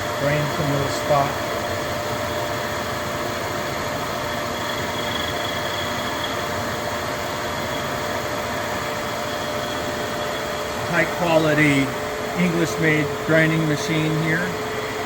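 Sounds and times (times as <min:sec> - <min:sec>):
grinder humming with thin whine: 0:00.0 - 0:15.0.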